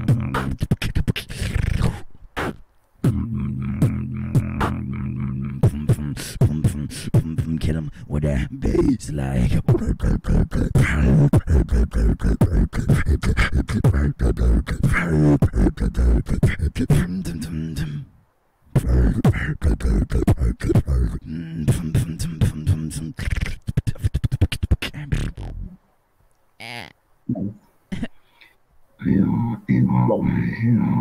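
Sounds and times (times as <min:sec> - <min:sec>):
beatboxing into a microphone: 0:00.0 - 0:18.1, 0:18.7 - 0:25.8.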